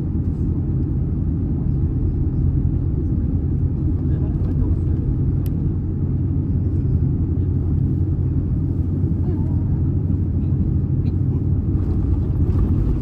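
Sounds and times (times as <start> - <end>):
aircraft engines rumbling while taxiing: 0.0 - 13.0.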